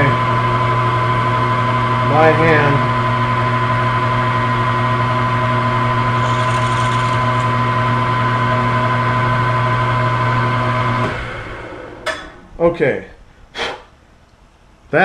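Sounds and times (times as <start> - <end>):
milling machine spindle hum: 0.0 - 12.1.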